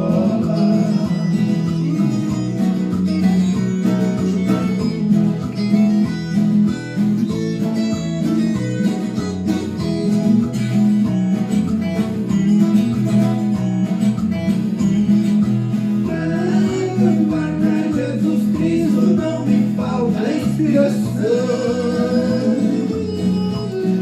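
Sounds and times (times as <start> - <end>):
folk guitar plucked and strummed: 0.0 - 24.0.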